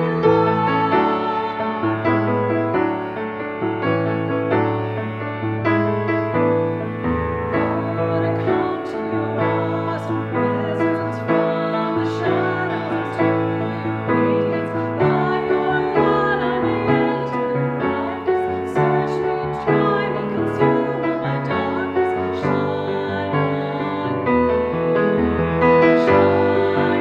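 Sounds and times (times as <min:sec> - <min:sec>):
women singing a hymn: 0:00.0 - 0:03.2, 0:06.7 - 0:27.0
piano chords: 0:00.0 - 0:27.0.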